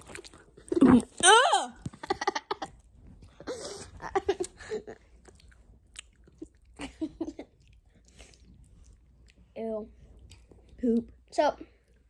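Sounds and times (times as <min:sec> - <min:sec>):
person chewing chocolate: 0:00.0 - 0:01.2, 0:01.8 - 0:11.1.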